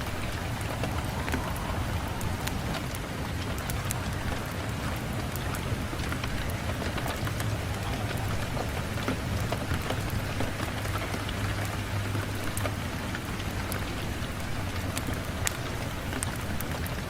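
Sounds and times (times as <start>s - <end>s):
rain on a window: 0.0s - 17.0s.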